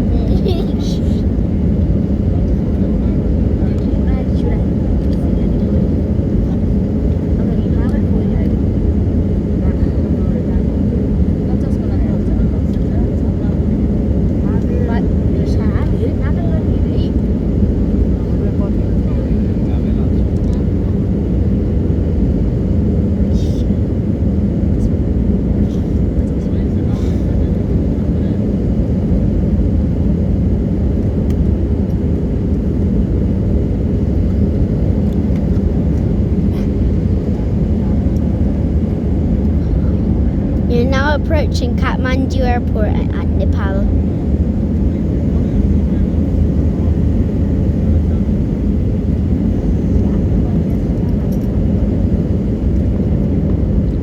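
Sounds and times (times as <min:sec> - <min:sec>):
airliner cabin roar: 0:00.0 - 0:54.0.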